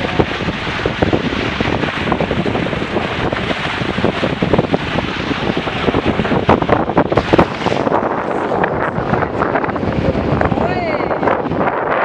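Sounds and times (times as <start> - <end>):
rushing splashing water: 0.0 - 12.0
water slapping: 0.0 - 12.0
wind buffeting microphone: 0.0 - 12.0.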